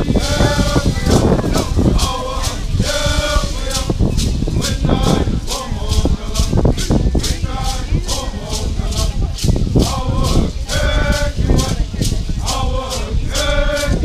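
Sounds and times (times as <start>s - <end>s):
group singing: 0.0s - 14.0s
rattles shaken: 0.0s - 14.0s.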